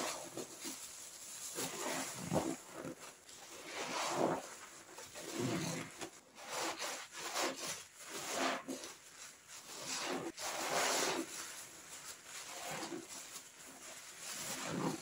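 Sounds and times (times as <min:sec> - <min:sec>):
hands rubbing and squishing: 0:00.0 - 0:15.0.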